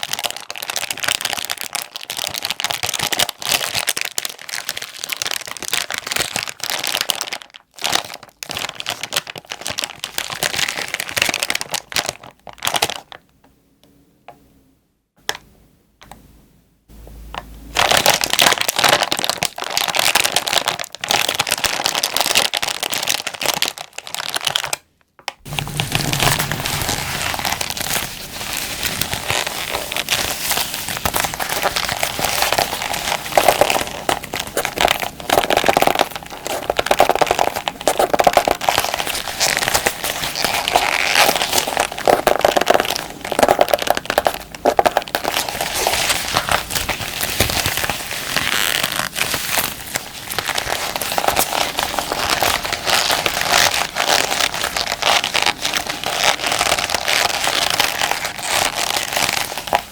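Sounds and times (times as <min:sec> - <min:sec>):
gloves crinkling and rustling: 0:00.0 - 0:13.2, 0:17.7 - 0:59.9.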